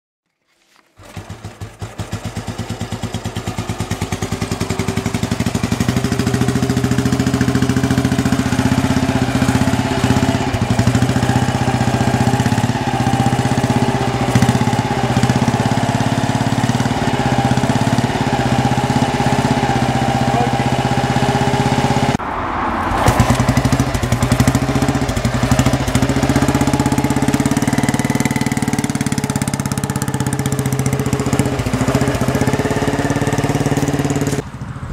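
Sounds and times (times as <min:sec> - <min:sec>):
motorcycle engine exhaust beat: 0:01.5 - 0:22.2, 0:23.1 - 0:34.9.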